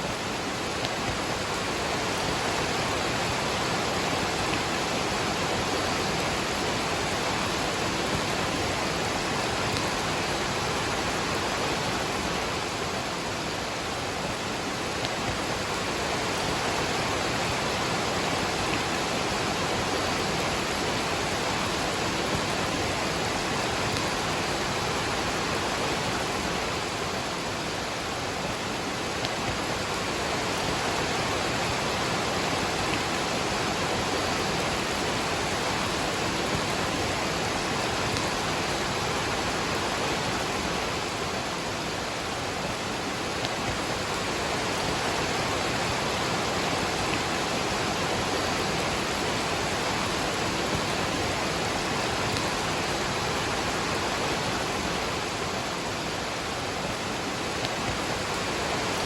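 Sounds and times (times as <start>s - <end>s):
rain falling: 0.0s - 59.0s
waterfall rushing: 0.0s - 59.0s.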